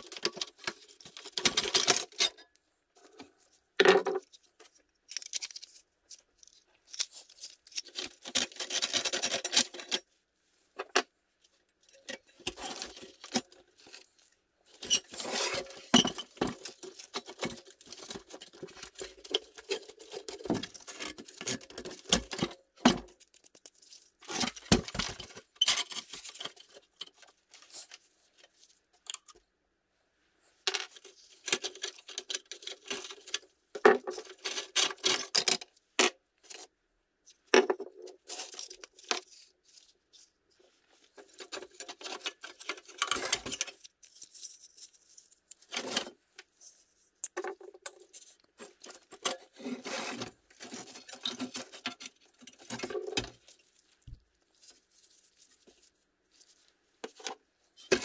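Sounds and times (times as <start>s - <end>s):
metal toy parts clinking and scraping: 0.0s - 3.2s, 4.0s - 10.1s, 11.8s - 29.4s, 30.7s - 35.7s, 38.0s - 40.3s, 41.1s - 55.8s.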